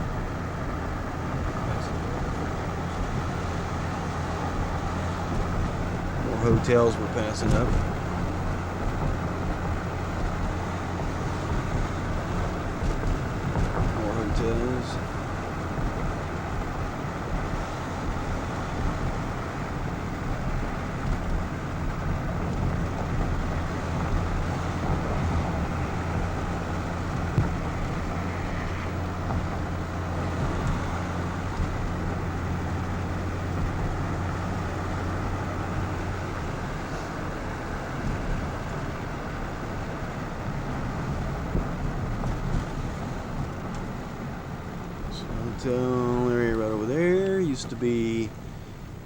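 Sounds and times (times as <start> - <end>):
car engine and road hum: 0.0 - 49.0.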